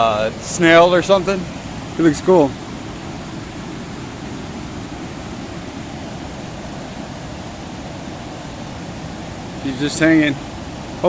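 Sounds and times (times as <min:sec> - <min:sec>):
waterfall and rapids rushing: 0:00.0 - 0:11.0.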